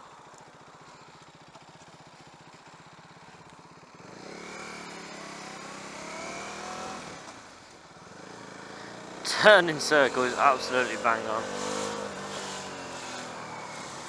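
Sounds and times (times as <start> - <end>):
motorcycle engine revving: 0.3 - 14.0.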